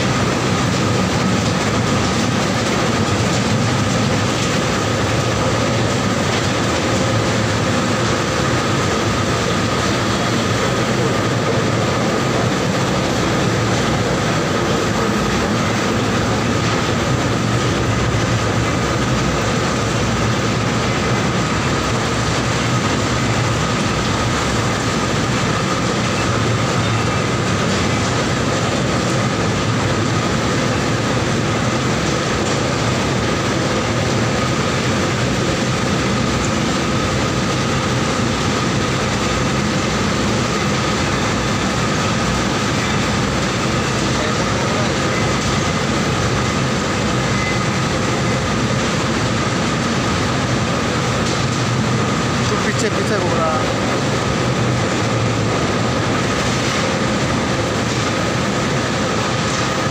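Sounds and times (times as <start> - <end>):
mill machinery running with whine: 0.0 - 59.9.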